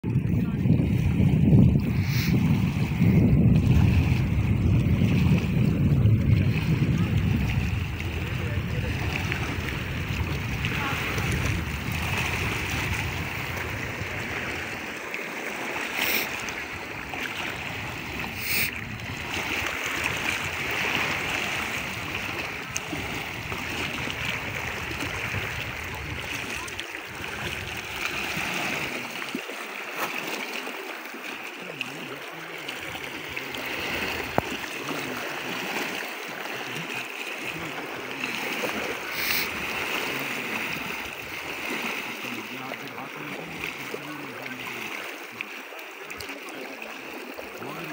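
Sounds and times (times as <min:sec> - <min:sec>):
waves lapping on rocky shore: 0:00.1 - 0:47.9.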